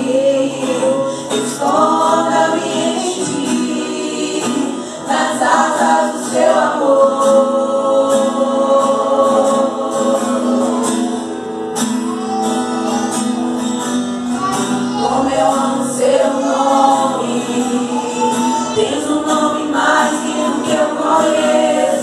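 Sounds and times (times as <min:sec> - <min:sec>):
women singing worship song: 0:00.0 - 0:11.5, 0:14.7 - 0:22.0
acoustic guitar strumming: 0:00.0 - 0:22.0.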